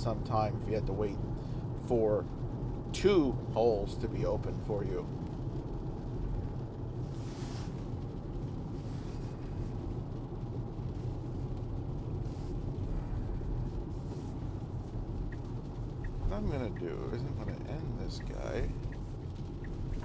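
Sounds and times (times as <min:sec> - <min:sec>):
road and tyre rumble: 0:00.0 - 0:20.0.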